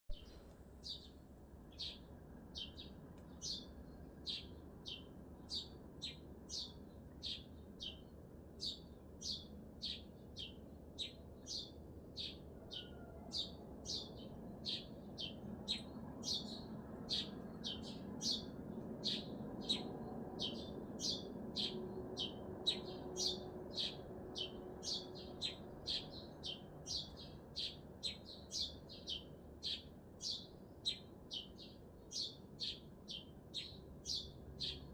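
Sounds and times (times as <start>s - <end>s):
city noise hum: 0.1s - 34.9s
small bird chirping: 0.1s - 34.9s.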